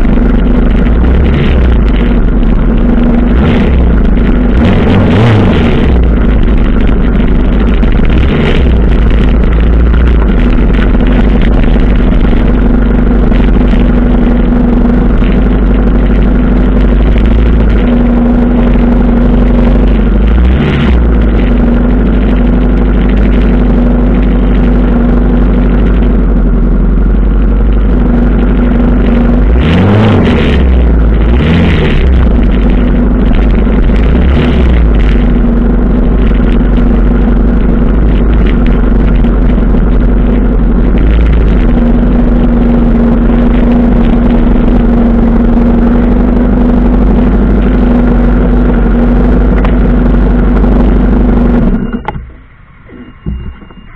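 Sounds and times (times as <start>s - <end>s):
motorcycle throttle blips: 0.0s - 29.6s, 30.2s - 53.9s
motorcycle engine rumbling: 0.0s - 53.9s.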